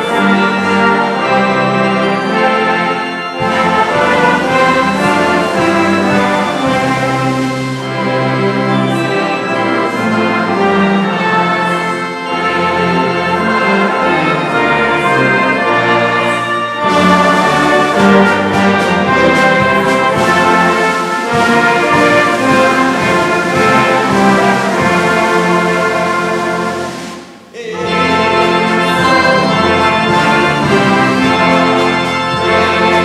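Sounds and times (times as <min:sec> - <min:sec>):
brass band playing a hymn: 0:00.0 - 0:33.0.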